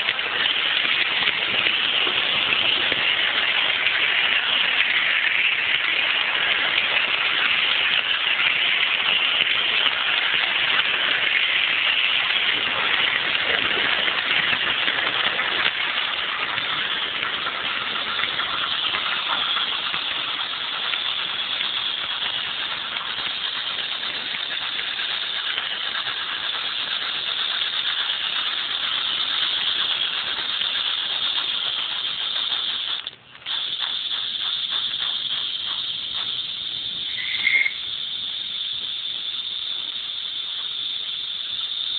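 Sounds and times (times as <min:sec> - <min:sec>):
model locomotive motor: 0:00.0 - 0:41.9
model train wheels rattling on rails: 0:00.0 - 0:41.9.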